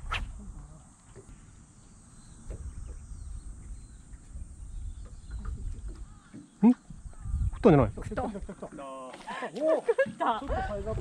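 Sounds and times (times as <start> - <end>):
wind buffeting microphone: 0.0 - 8.7, 10.4 - 11.0
faint outdoor background: 0.0 - 11.0.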